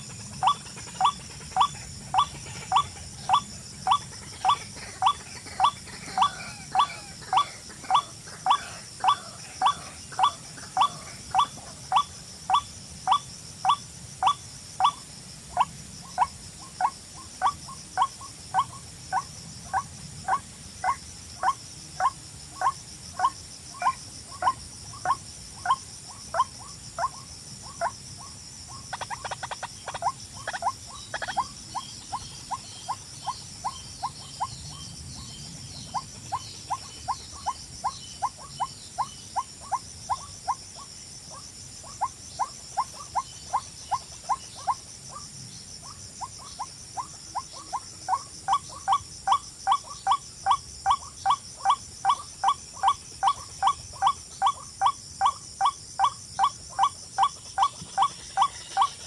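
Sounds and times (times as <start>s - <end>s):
bird chirping: 0.0s - 15.0s, 15.6s - 59.0s.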